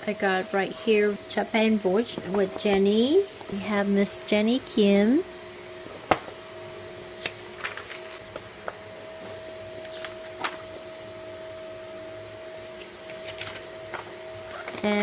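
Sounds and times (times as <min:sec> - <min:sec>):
two-pitch mechanical hum: 0:00.0 - 0:15.0.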